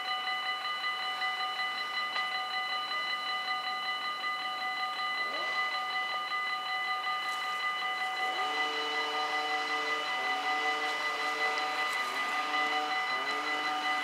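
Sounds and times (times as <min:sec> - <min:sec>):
level crossing warning bells: 0:00.0 - 0:14.0.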